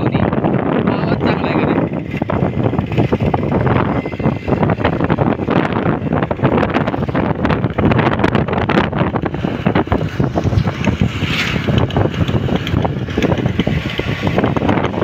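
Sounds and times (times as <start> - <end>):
road and vehicle noise: 0.0 - 15.0
wind buffeting microphone: 0.0 - 15.0.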